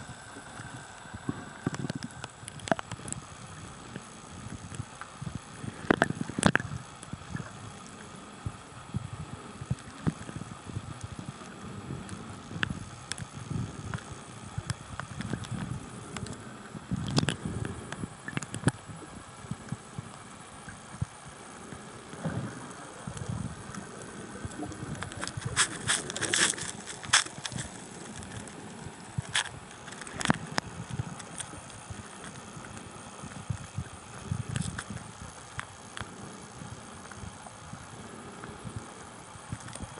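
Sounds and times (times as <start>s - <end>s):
underwater clicks and crackles: 0.0s - 39.9s
underwater rumble of moving water: 0.0s - 39.9s.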